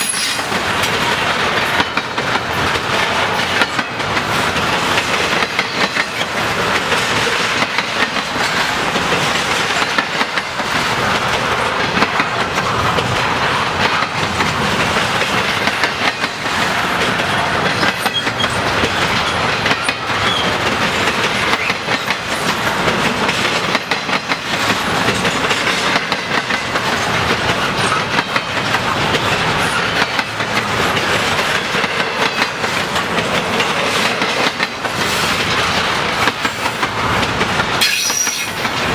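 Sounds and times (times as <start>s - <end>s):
freight cars clattering on rails: 0.0s - 38.9s.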